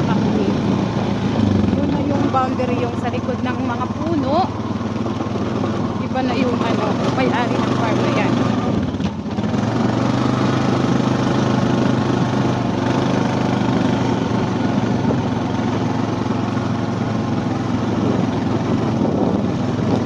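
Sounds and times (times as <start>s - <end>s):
small engine droning: 0.0s - 20.0s.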